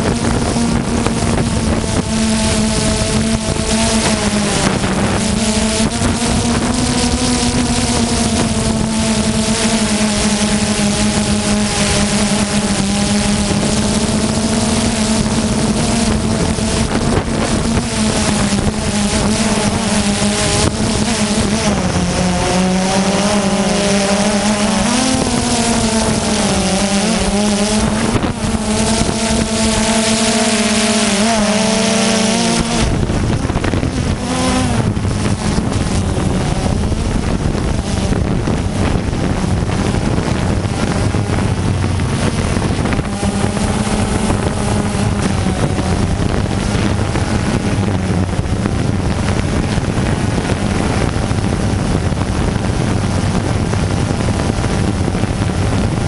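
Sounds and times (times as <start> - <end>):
drone propellers whirring: 0.0 - 56.0
wind buffeting on microphone: 0.0 - 56.0.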